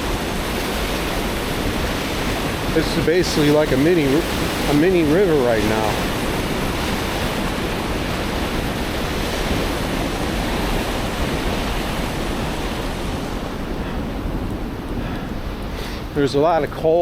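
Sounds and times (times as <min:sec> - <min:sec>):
fast stream rushing: 0:00.0 - 0:17.0.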